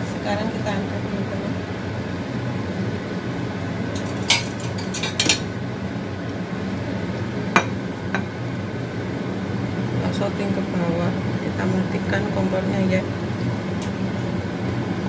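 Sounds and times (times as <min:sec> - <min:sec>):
gas burner rushing: 0:00.0 - 0:15.0.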